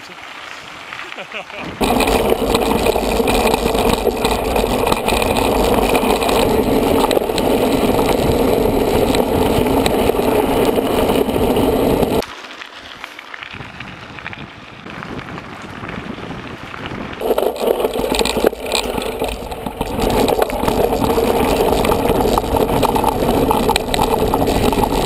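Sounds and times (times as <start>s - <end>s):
tyres rumbling on gravel: 0.0s - 25.0s
bike rattling: 0.3s - 25.0s.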